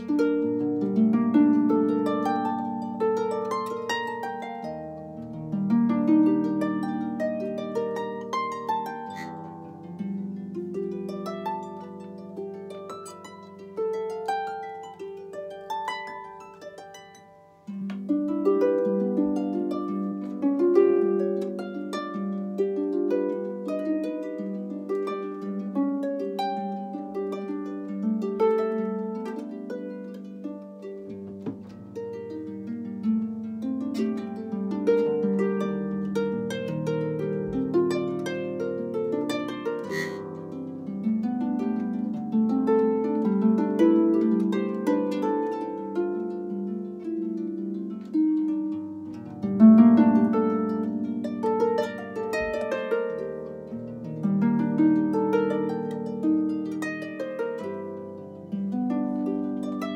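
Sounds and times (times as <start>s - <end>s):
solo harp playing: 0.0s - 59.9s.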